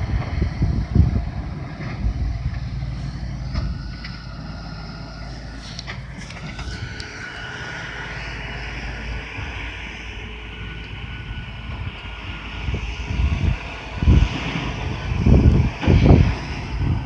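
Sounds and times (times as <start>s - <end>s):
low rumbles: 0.0s - 17.0s
tractor diesel engine running: 0.0s - 17.0s.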